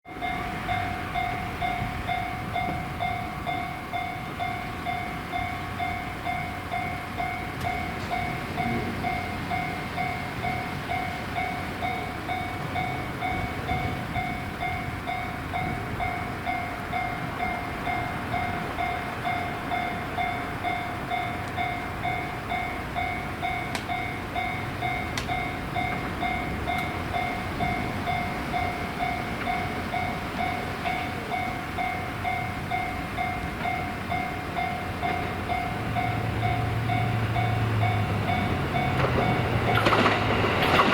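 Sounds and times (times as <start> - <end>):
level-crossing warning bell ringing: 0.1 - 40.9.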